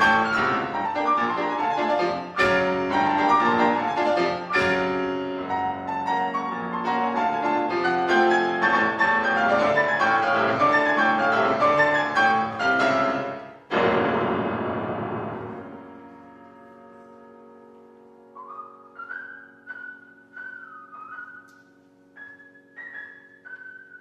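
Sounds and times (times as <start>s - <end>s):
grand piano playing: 0.0s - 24.0s.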